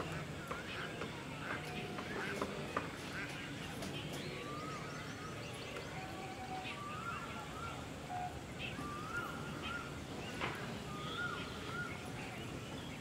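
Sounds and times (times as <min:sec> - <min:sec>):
bird calling: 0:00.0 - 0:13.0
outdoor background noise: 0:00.0 - 0:13.0.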